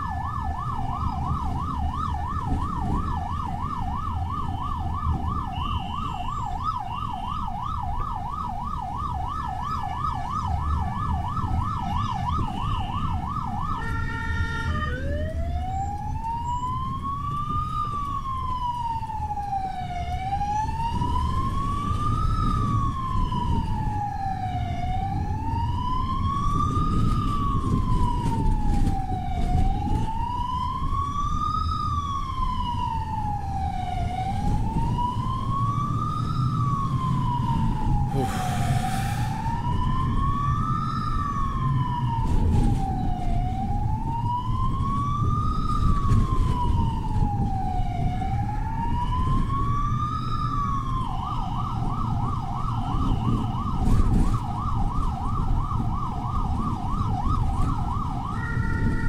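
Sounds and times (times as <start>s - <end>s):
emergency siren wailing: 0.0s - 59.0s
vehicle engine and road rumble: 0.0s - 59.0s.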